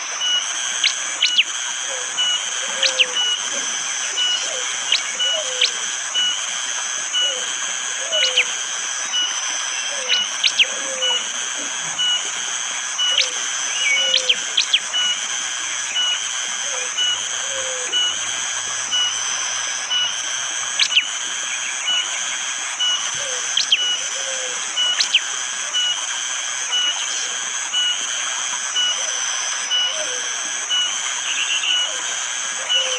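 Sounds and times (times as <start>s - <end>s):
insects hissing: 0.0s - 32.9s.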